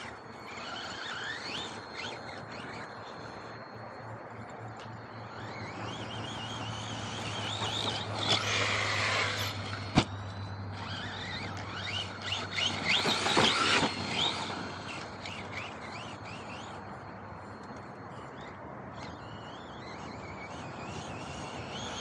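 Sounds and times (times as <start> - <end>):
electric toy truck motor whine: 0.0 - 22.0
steady low hum: 0.0 - 22.0.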